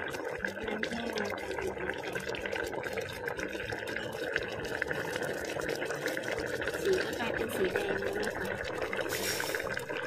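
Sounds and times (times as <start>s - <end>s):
syrup bubbling with small pops: 0.0s - 10.0s.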